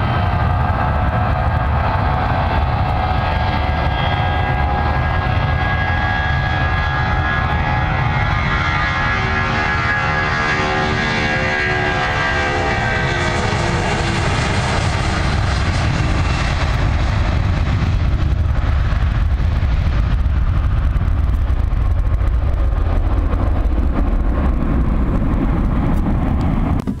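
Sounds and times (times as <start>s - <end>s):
deep jet rumble: 0.0s - 27.0s
jet engine whine: 0.0s - 27.0s.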